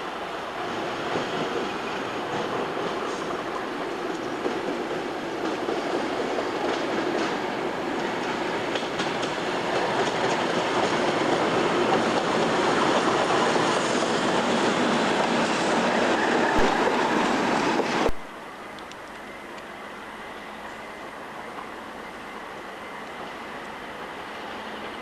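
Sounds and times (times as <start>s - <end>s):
freight train passing: 0.0s - 25.0s
steady background noise: 0.0s - 25.0s.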